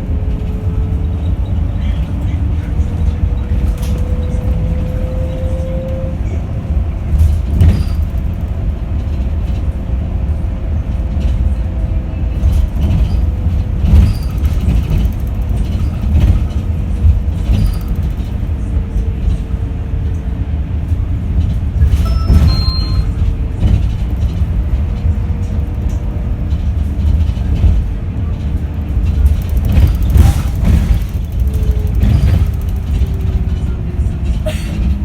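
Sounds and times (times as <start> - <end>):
bus road rumble: 0.0 - 35.0.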